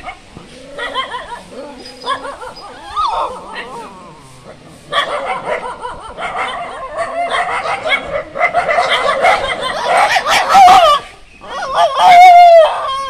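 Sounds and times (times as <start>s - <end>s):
dogs yelping and whining: 0.0s - 13.0s.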